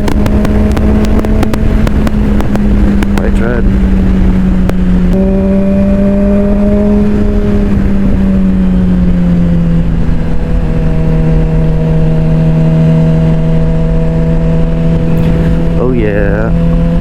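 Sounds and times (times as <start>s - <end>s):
motorcycle engine cruising: 0.0s - 17.0s
wind rumble on microphone: 0.0s - 17.0s.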